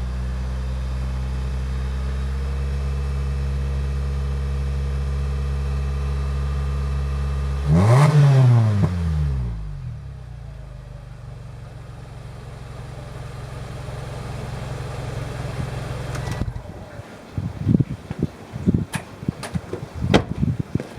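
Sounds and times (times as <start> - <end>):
car exhaust idling and revving: 0.0 - 17.0.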